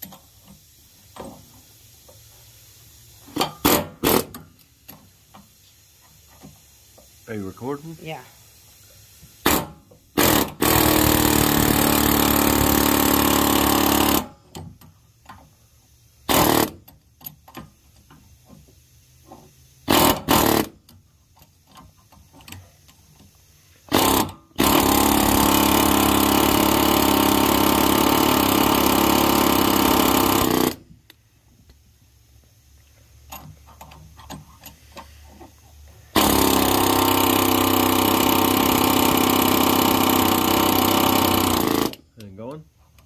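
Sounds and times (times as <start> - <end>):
pneumatic air hammer bursts: 0.0 - 7.2, 8.6 - 31.1, 33.3 - 42.2.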